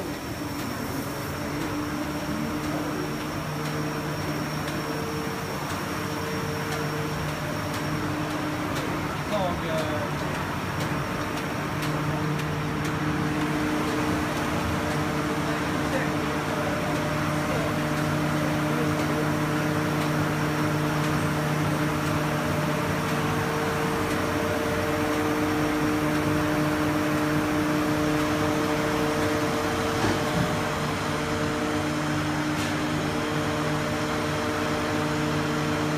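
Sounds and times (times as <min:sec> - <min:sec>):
constant multi-pitch hum: 0:00.0 - 0:35.9
printing press running: 0:00.0 - 0:35.9.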